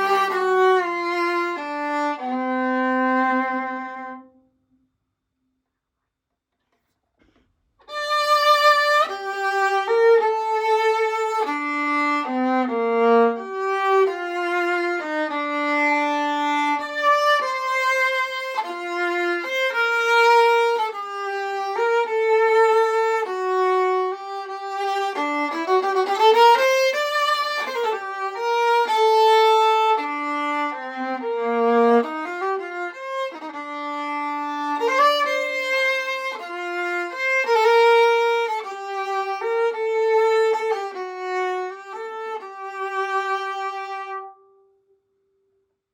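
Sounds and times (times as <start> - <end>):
solo viola bowed melody: 0.0 - 4.5, 7.8 - 44.9.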